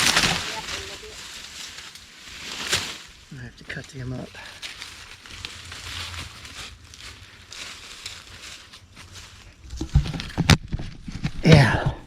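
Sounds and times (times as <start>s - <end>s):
footsteps crunching dry leaves: 0.0s - 10.4s.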